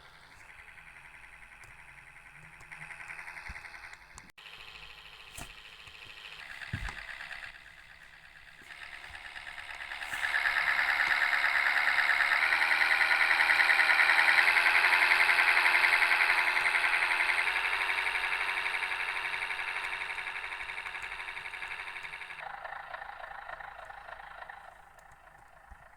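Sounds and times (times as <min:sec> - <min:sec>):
bus engine pulsing: 0:00.0 - 0:25.9.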